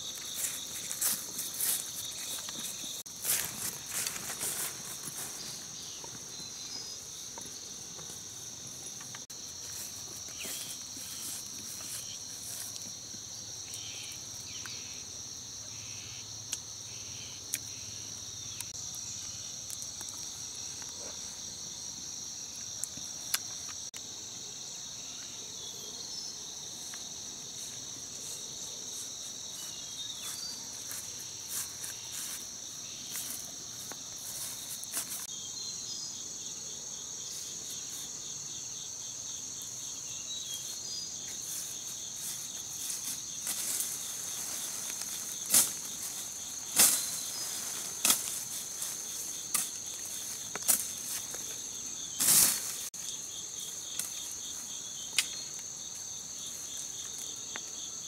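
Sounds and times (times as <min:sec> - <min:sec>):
insect chorus drone and trill: 0:00.0 - 0:58.0.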